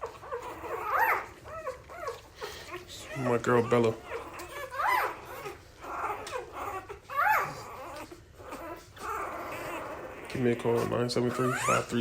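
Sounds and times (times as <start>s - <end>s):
dog whimpering: 0.0s - 12.0s.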